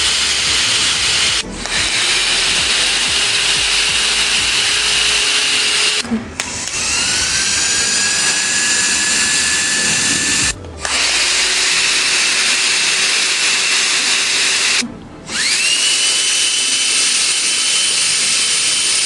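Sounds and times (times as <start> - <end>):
hot air comb fan whining: 0.0 - 19.0.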